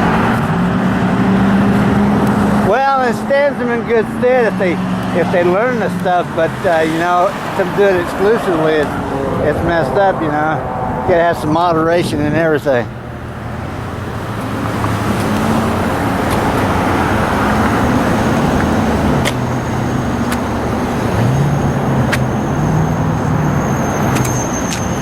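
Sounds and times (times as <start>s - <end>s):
low hum of vehicle engines: 0.0s - 25.0s
tyres and wind rushing: 0.0s - 25.0s.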